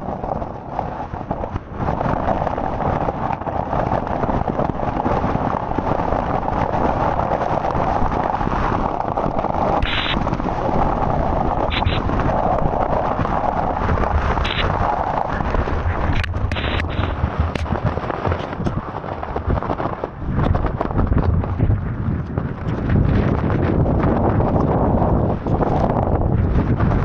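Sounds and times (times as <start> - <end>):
storm wind gusting on microphone: 0.0 - 27.0.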